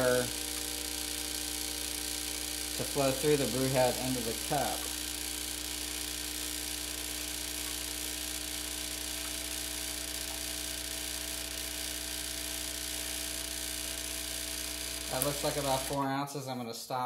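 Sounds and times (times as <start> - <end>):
espresso machine pump buzzing: 0.0 - 16.1.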